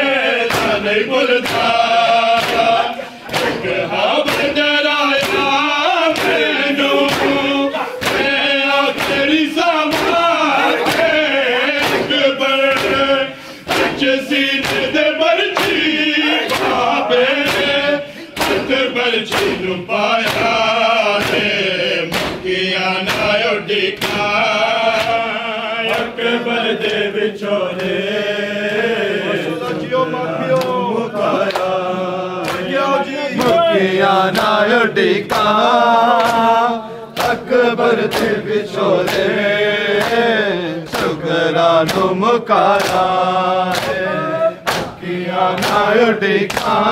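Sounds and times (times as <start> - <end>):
men chanting in unison: 0.0 - 46.9
hand slaps on chests: 0.4 - 26.2, 30.5 - 31.8, 32.4 - 46.9.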